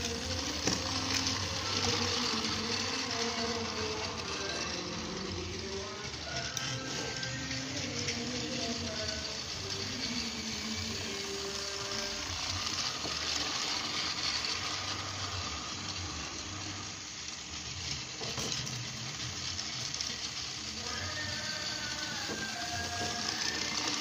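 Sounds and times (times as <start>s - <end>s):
toy train motor whirring: 0.0s - 24.0s.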